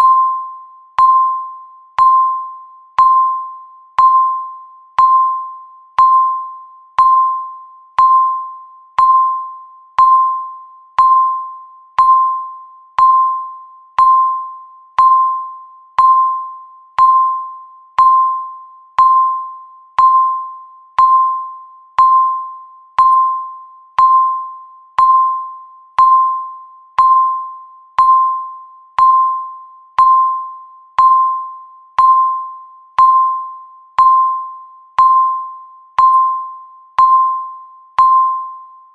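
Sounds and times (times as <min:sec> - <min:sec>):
timer electronic beep: 0:00.0 - 0:38.9.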